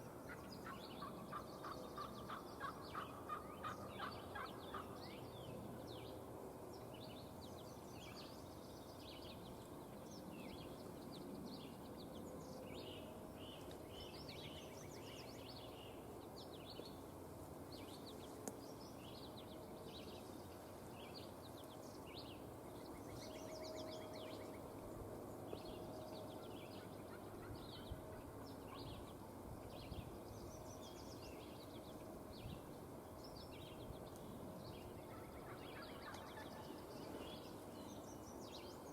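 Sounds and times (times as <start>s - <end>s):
outdoor background hiss: 0.0s - 38.9s
songbirds chirping: 0.0s - 38.9s.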